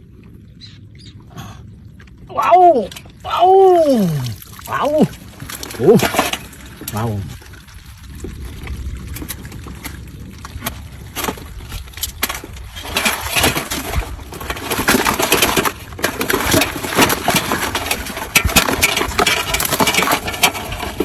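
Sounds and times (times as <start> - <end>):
splashing in shallow water: 0.0 - 21.0.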